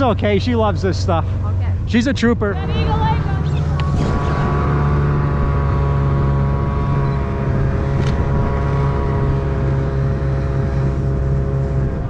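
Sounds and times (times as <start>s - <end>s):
motor engine running: 0.0s - 12.0s.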